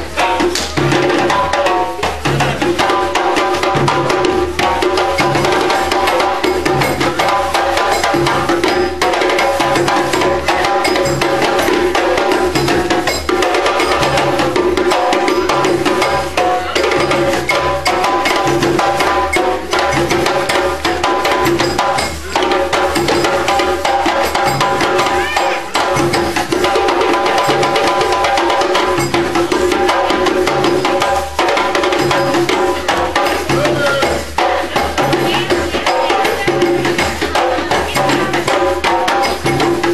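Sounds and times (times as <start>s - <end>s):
hand drums and percussion: 0.0s - 39.9s.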